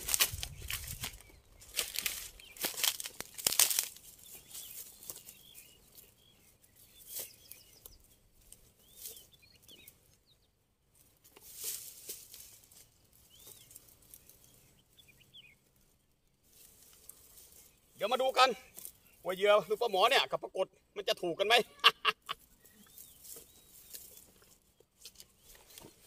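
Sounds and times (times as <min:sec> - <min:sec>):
rustling of grass and brush: 0:00.0 - 0:20.2, 0:22.1 - 0:26.0.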